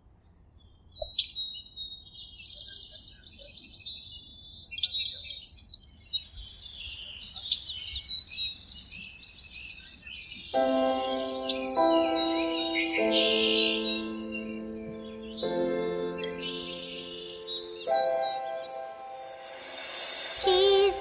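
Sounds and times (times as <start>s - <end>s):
birds chirping and singing: 3.0s - 21.0s.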